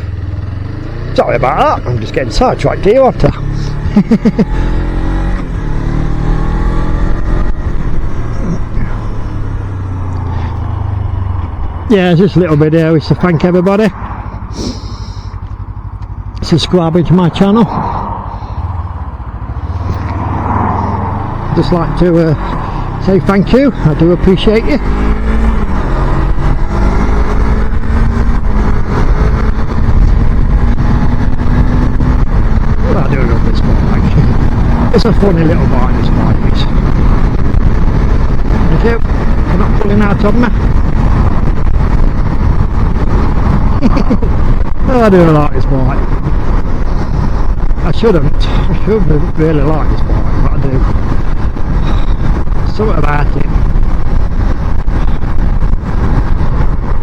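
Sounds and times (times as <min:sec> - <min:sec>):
motorcycle engine accelerating: 0:00.0 - 0:57.0
wind rumble on microphone: 0:00.0 - 0:57.0.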